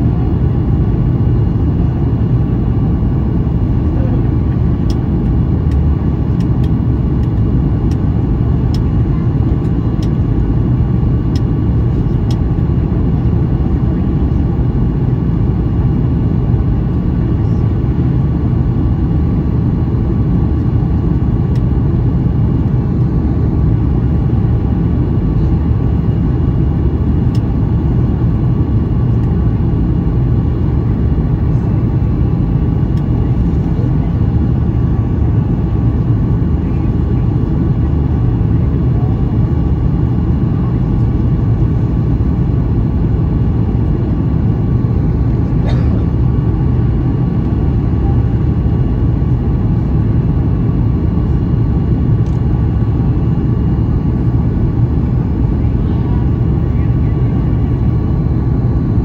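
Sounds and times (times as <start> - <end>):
airplane cabin roar: 0.0 - 59.0
jet engines running: 0.0 - 59.0.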